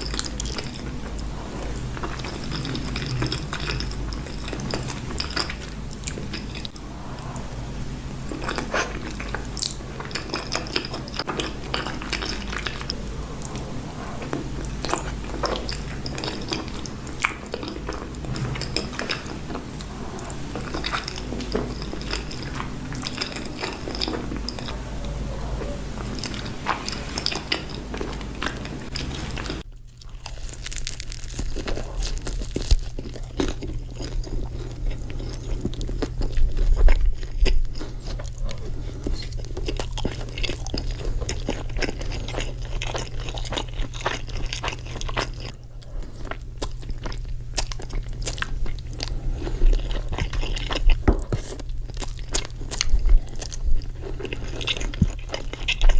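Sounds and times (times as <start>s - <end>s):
chewing and biting pasta: 0.0s - 55.9s
low steady hum: 0.0s - 55.9s.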